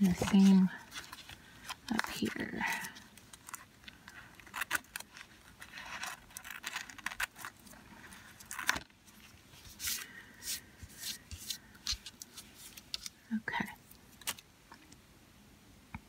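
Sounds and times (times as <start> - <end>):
tissue paper rustling: 0.0 - 13.2.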